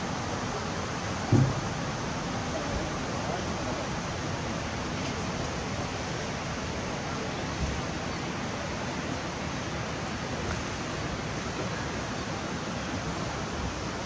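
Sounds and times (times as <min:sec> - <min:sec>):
river rushing hiss: 0:00.0 - 0:14.0.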